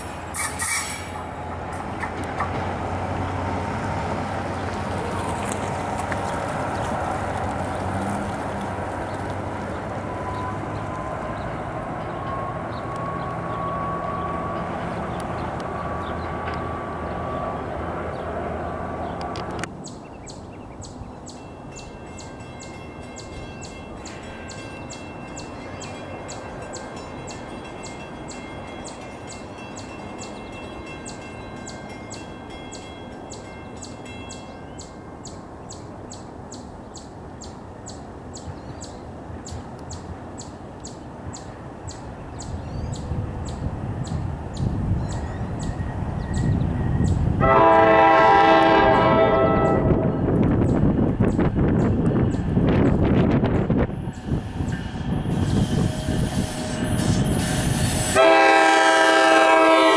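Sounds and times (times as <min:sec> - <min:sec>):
low train rumble: 0:00.0 - 0:59.9.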